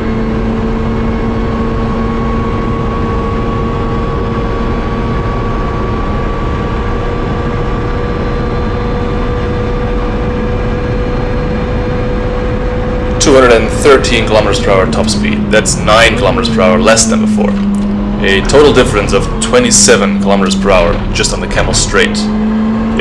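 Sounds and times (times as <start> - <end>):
car engine at full throttle: 0.0 - 23.0.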